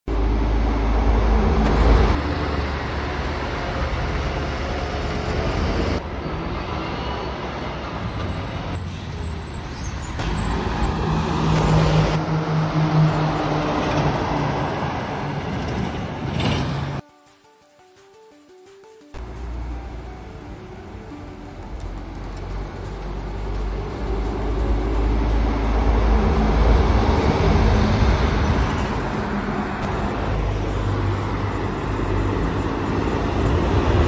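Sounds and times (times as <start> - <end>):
heavy diesel trucks driving past: 0.1 - 17.0, 19.2 - 34.0
tyre noise on road: 0.1 - 17.0, 19.2 - 34.0.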